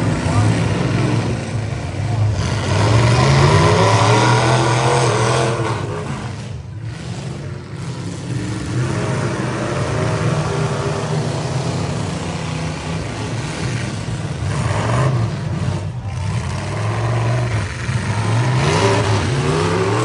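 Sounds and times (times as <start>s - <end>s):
truck engines revving: 0.0s - 20.0s.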